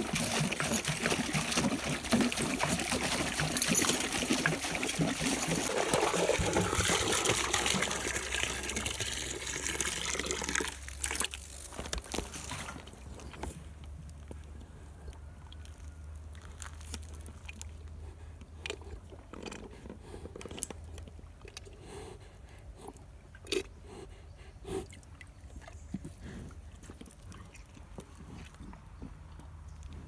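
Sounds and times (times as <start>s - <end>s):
cows chewing and crunching: 0.0s - 30.0s.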